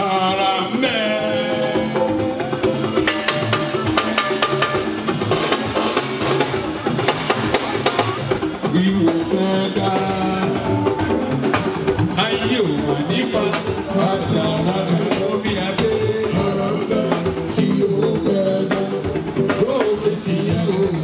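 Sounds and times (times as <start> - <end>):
live band music with drums: 0.0 - 21.0.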